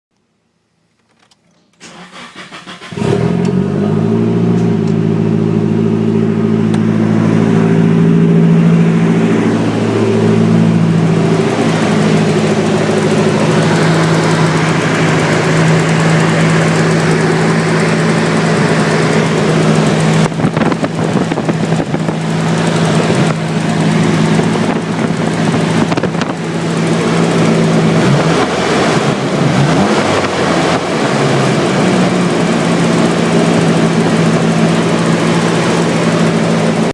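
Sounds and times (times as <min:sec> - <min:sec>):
car engine cranking and idling: 0:00.9 - 0:36.9
engine ticking: 0:04.4 - 0:36.9.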